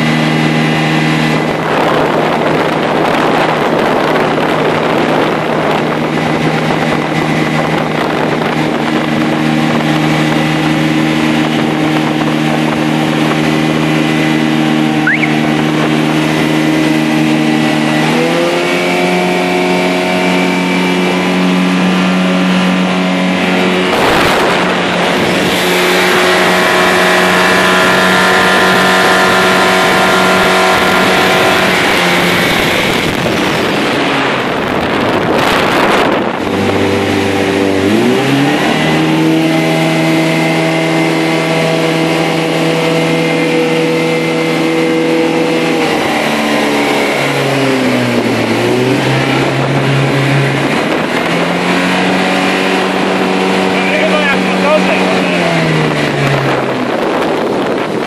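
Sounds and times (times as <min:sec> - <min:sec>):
motorboat engine running: 0:00.0 - 0:58.0
water and wind rushing: 0:00.0 - 0:58.0.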